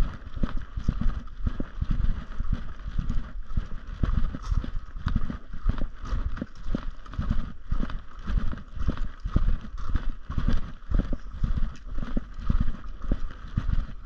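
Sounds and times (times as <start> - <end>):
footsteps on gravel: 0.0 - 14.0.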